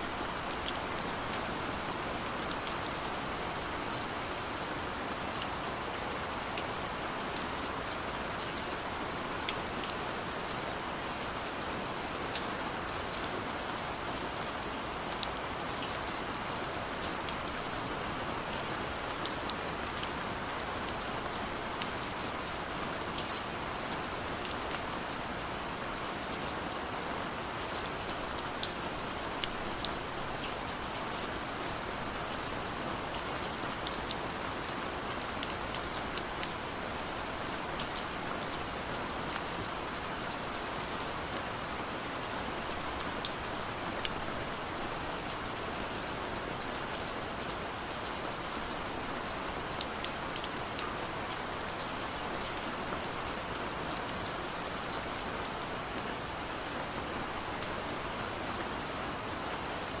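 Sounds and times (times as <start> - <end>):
gentle rain hissing: 0.0 - 60.0.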